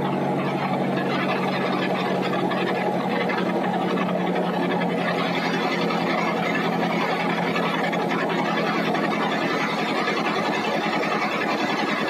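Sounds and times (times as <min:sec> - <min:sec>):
bandsaw mill running: 0:00.0 - 0:12.0.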